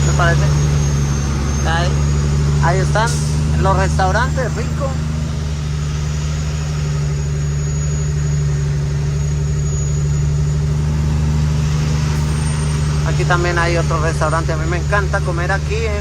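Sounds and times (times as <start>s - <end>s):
truck diesel engine from inside cab: 0.0s - 16.0s.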